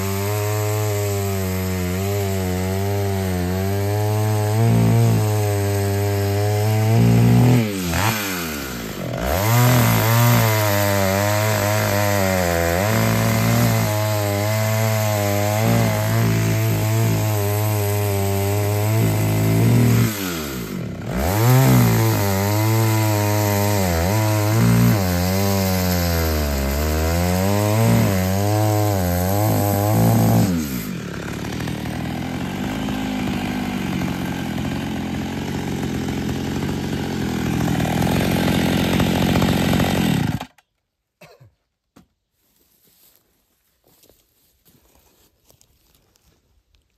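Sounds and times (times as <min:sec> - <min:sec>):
chainsaw cutting wood: 0:00.0 - 0:41.4.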